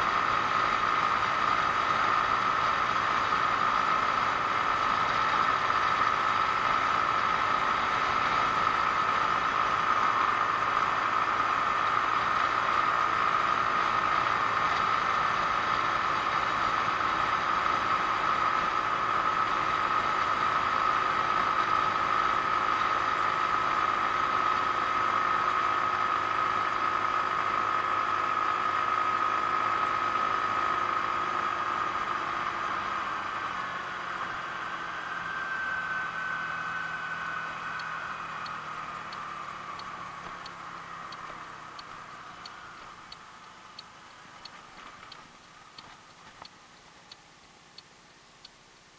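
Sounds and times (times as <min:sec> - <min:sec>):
scooter engine running: 0:00.0 - 0:46.6
wind and road hiss: 0:00.0 - 0:48.9.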